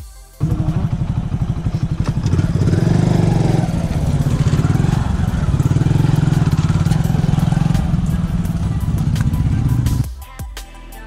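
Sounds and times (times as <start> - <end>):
motorcycle engine revving: 0.4 - 10.0.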